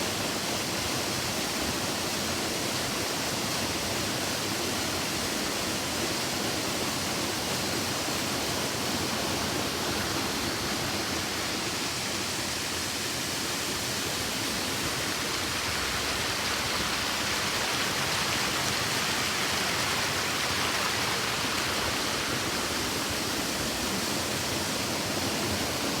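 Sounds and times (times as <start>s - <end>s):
waterfall rushing water: 0.0s - 26.0s.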